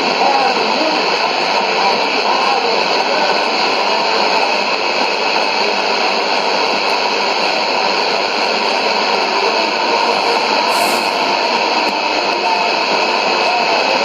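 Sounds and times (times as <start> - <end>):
shortwave radio static and hiss: 0.0 - 14.0.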